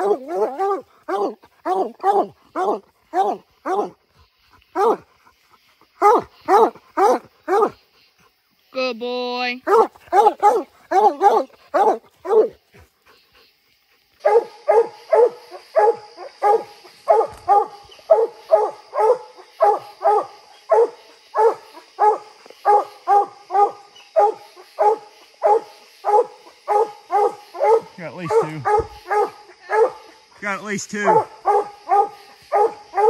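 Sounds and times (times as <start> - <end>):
dog barking: 0.0 - 4.0, 4.8 - 5.1, 6.0 - 7.8, 9.6 - 12.6, 14.2 - 30.1, 31.0 - 33.0.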